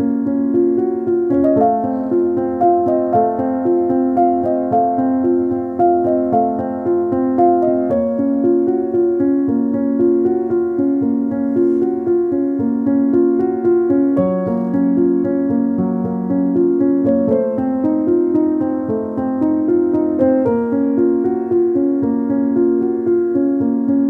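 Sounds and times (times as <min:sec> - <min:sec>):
gentle solo piano music: 0:00.0 - 0:24.0.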